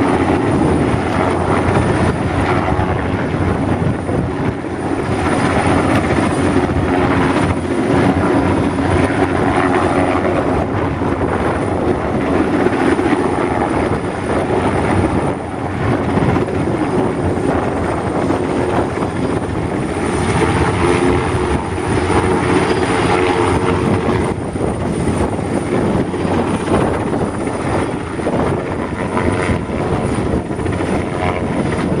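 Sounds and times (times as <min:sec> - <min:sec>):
high constant whine: 0:00.0 - 0:32.0.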